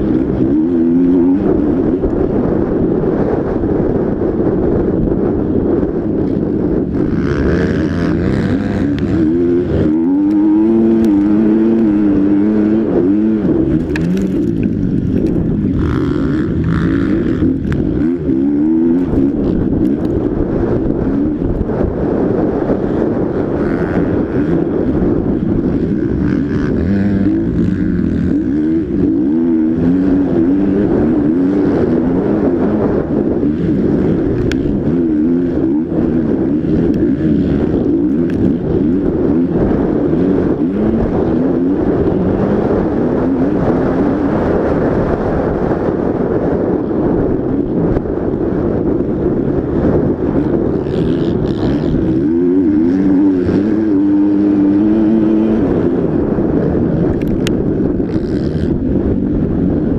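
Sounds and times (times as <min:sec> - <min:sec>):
motocross bike engine revving: 0:00.0 - 0:03.5, 0:05.6 - 0:47.9, 0:48.5 - 0:59.9.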